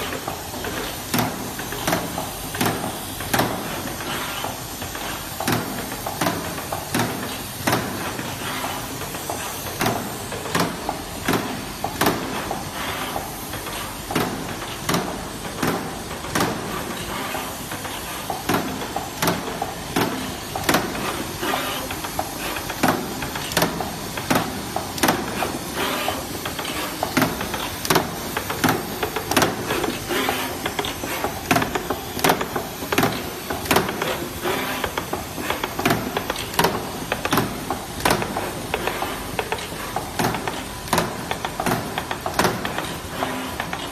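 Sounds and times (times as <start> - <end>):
machine running noise: 0.0 - 43.9
pneumatic cylinders clacking: 0.0 - 43.9.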